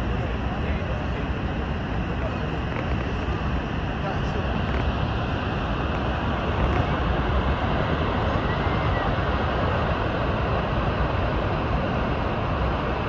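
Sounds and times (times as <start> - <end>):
waterfall roaring: 0.1 - 13.0.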